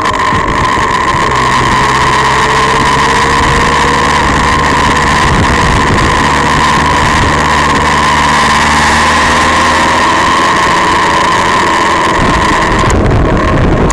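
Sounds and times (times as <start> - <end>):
motorcycle engine cruising: 0.0 - 13.9
steady high tone: 0.0 - 13.9
wind noise: 0.0 - 13.9.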